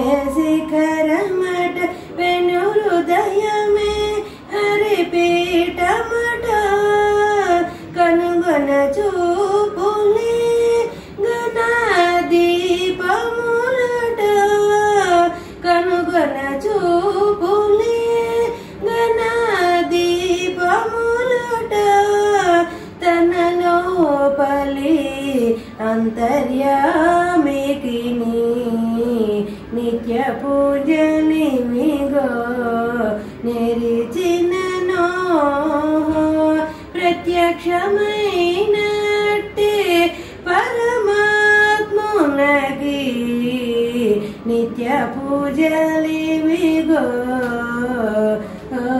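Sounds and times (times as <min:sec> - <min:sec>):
woman singing unaccompanied: 0:00.0 - 0:48.9.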